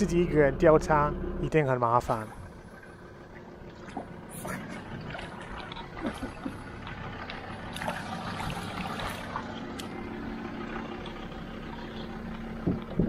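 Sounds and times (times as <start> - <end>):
truck engine running: 0.0 - 13.0
water trickling and splashing: 2.0 - 13.0.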